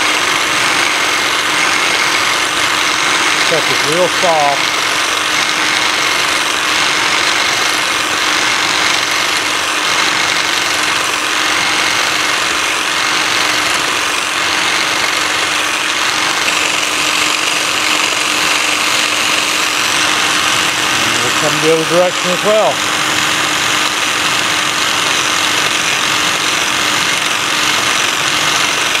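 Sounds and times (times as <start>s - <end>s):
power scraper scraping metal: 0.0s - 29.0s.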